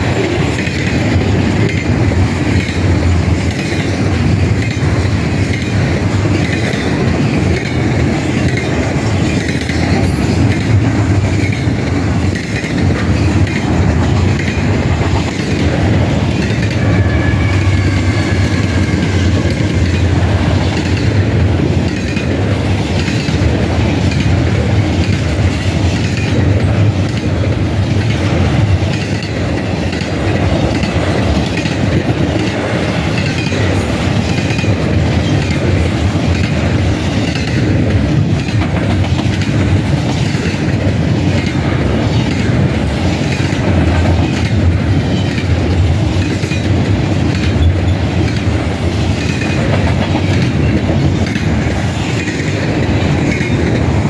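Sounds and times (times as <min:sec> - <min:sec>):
wheels clickety-clack on rails: 0:00.0 - 0:54.0.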